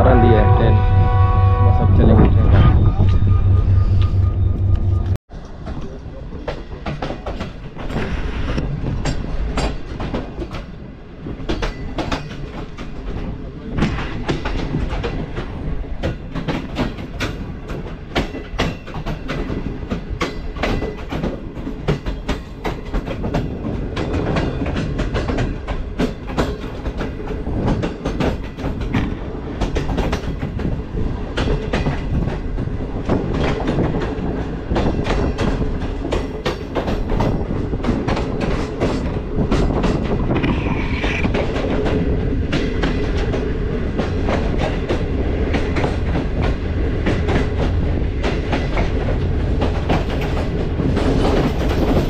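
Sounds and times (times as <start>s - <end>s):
train rumble: 0.0s - 52.0s
train wheels clacking over rail joints: 5.4s - 52.0s.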